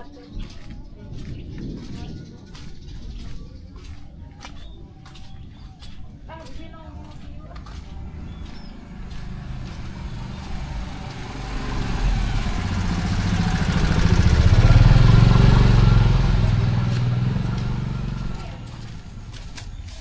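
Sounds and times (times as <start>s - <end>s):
motorcycle engine passing by: 0.0s - 20.0s.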